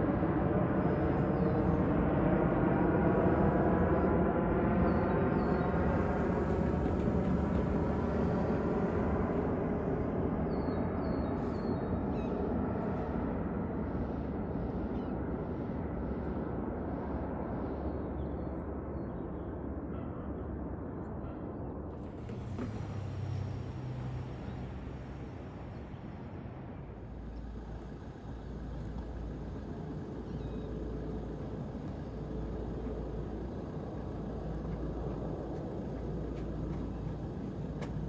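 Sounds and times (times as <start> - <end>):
jet airliner passing overhead: 0.0 - 38.0.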